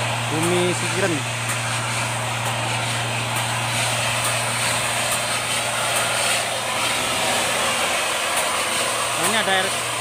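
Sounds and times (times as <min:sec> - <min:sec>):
construction machinery engine hum: 0:00.0 - 0:10.0.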